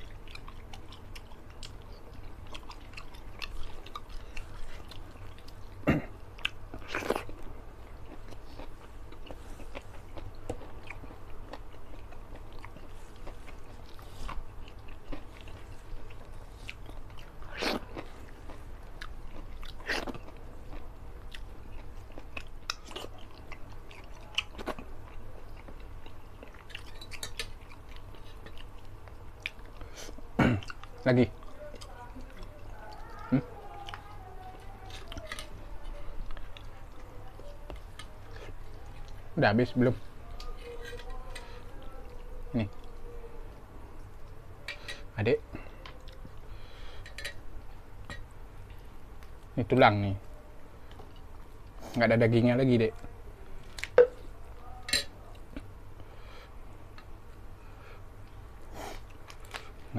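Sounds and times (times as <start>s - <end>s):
man chewing with mouth smacks: 0.0s - 49.6s, 50.2s - 52.1s, 52.9s - 59.9s.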